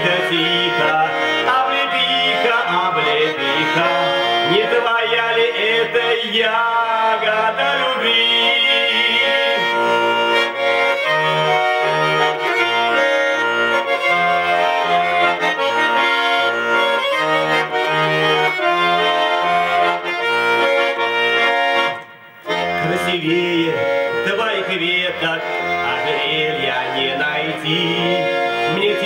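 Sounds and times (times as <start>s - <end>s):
button accordion melody: 0.0s - 29.0s.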